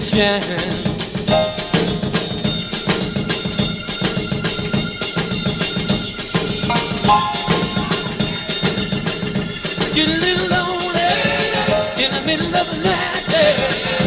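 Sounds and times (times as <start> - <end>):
rhythm and blues rock instrumental: 0.0 - 14.0.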